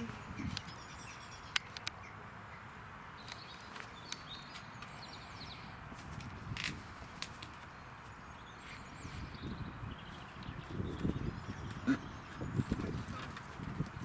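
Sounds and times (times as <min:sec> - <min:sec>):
small birds chirping: 0:00.0 - 0:06.5, 0:07.1 - 0:14.0.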